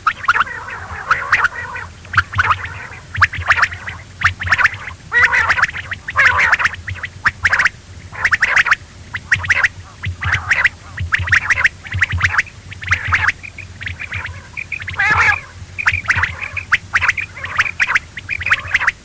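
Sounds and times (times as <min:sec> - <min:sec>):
quail calling: 0:00.0 - 0:19.0.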